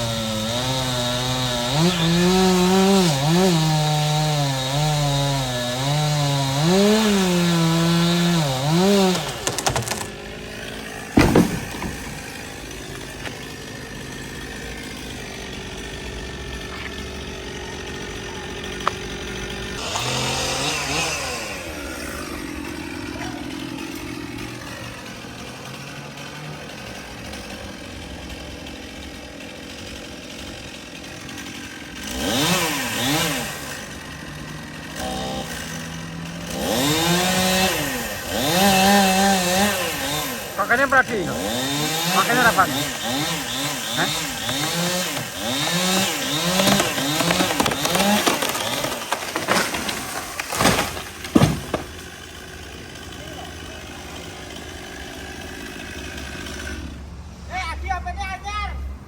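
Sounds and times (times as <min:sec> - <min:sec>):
chainsaw cutting wood: 0:00.0 - 0:57.2.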